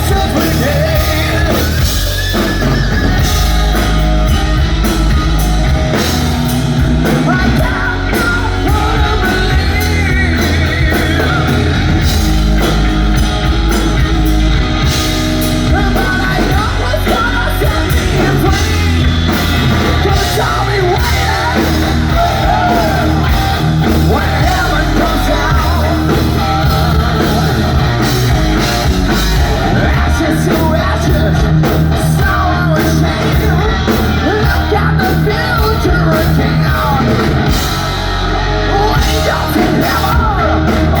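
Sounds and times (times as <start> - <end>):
person singing: 0.0 - 6.1, 7.0 - 12.9, 14.9 - 41.0
hard rock band playing live: 0.0 - 41.0.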